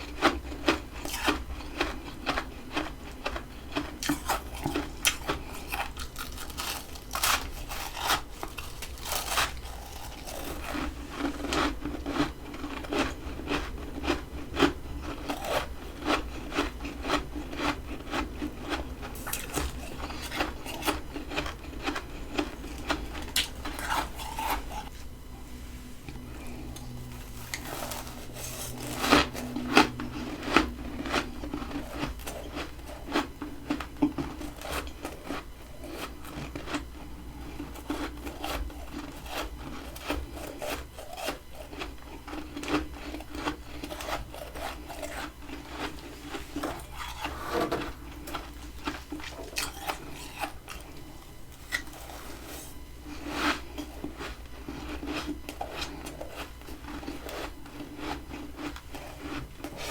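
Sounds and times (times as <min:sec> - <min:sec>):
frost crunching and scraping: 0:00.0 - 0:59.9.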